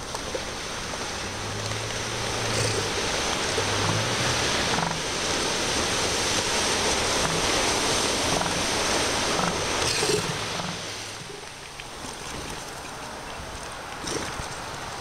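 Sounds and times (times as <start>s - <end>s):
surf breaking on a beach: 0.0s - 15.0s.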